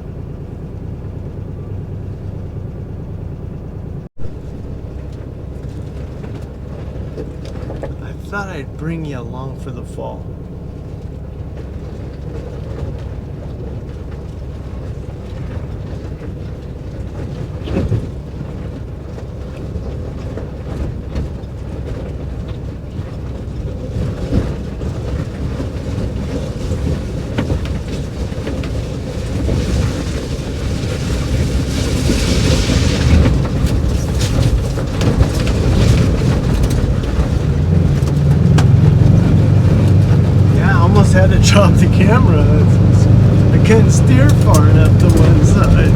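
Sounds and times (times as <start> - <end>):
engine running low: 0.0 - 45.9
tyres rumbling over rocks: 0.1 - 45.9.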